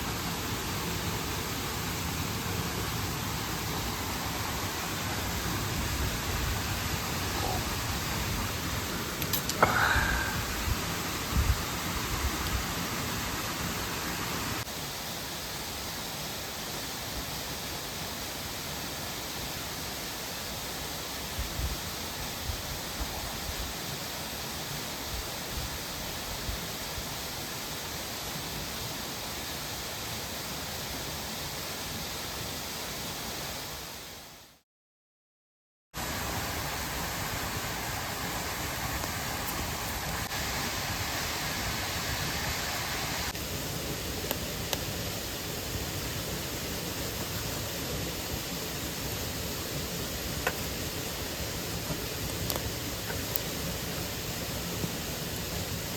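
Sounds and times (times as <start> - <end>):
waterfall and stream rushing: 0.0 - 34.4, 36.0 - 55.9.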